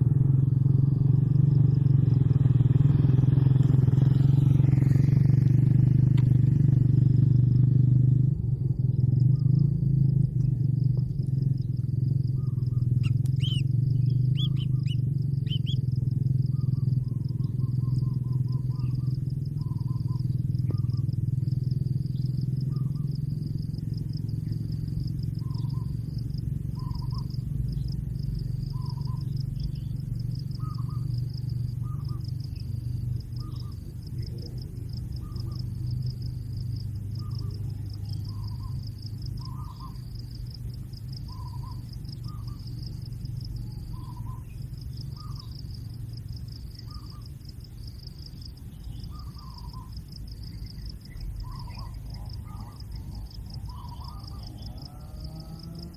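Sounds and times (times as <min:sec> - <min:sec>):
pulsing insect drone: 0:00.0 - 0:55.9.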